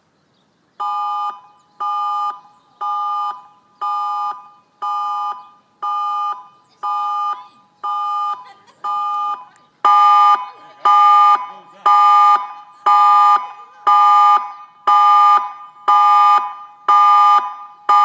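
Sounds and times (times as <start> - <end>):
warning siren pulsing chord: 0.8 - 18.0.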